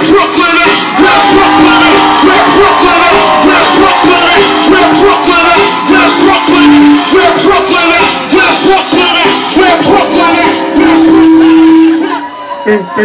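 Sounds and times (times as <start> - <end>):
loud music over sound system: 0.0 - 13.0.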